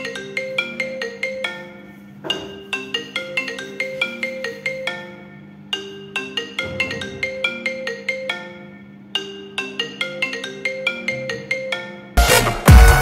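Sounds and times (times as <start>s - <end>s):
phone ringtone marimba notes: 0.0s - 12.2s.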